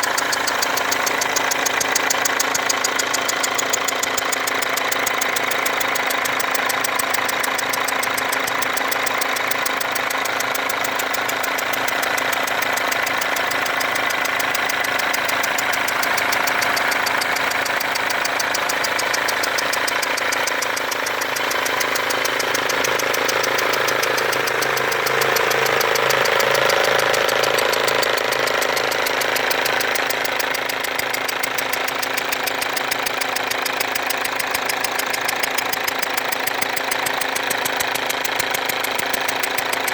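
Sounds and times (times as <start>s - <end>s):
diesel engine idling: 0.0s - 39.9s
rapid ticking and whistling injector: 0.0s - 39.9s.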